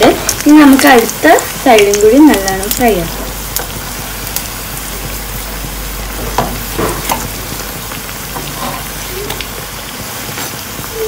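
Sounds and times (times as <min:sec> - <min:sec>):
patties sizzling in hot oil: 0:00.0 - 0:11.0.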